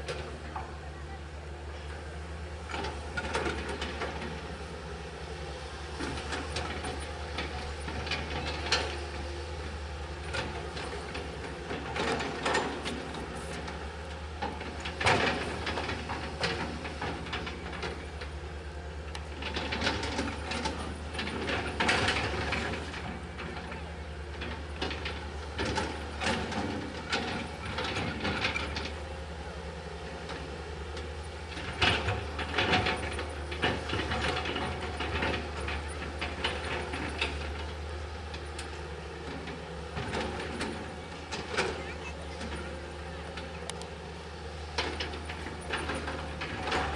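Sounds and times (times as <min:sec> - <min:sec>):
excavator diesel engine humming: 0:00.0 - 0:46.9.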